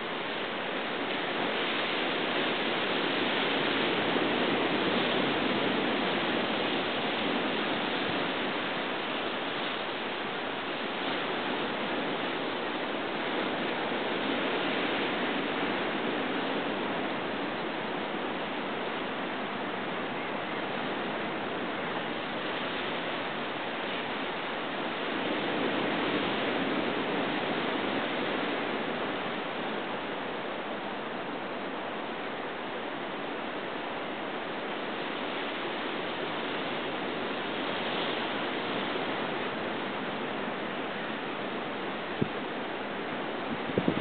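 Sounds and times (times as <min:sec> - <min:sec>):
ocean surf on rocky shore: 0:00.0 - 0:44.0.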